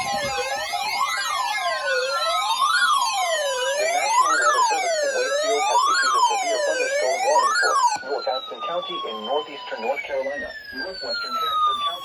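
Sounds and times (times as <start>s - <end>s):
electronic wail siren: 0.0s - 12.0s.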